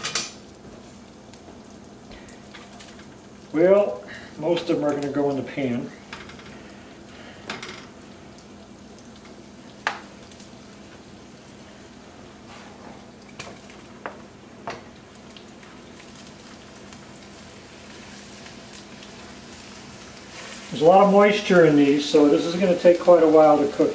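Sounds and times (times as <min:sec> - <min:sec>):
onions sizzling in a frying pan: 0:00.0 - 0:23.9.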